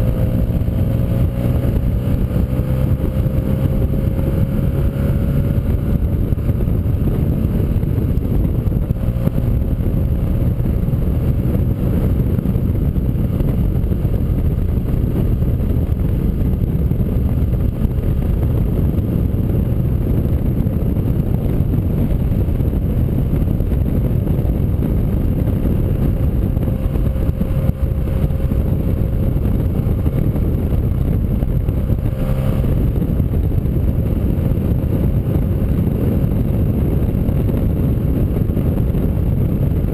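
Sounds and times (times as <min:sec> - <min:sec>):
motorcycle engine at speed: 0:00.0 - 0:39.9
rushing air: 0:00.0 - 0:39.9.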